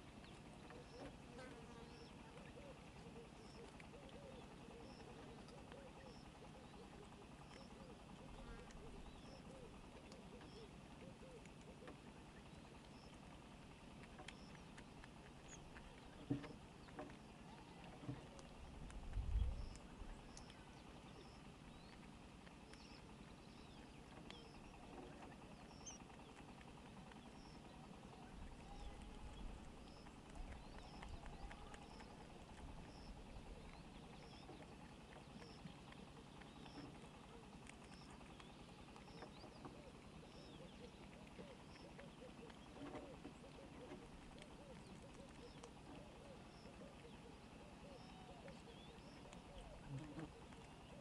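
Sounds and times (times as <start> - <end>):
faint clicks: 8.5 - 27.7, 28.5 - 51.0.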